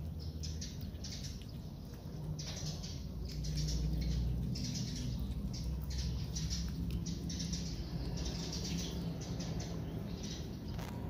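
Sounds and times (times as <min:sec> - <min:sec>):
cats chewing and lapping: 0:00.0 - 0:11.0.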